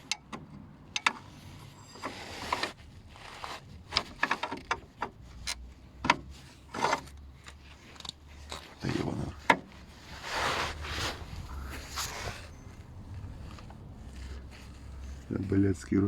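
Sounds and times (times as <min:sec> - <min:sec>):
car suspension squeaking: 0:00.9 - 0:15.4.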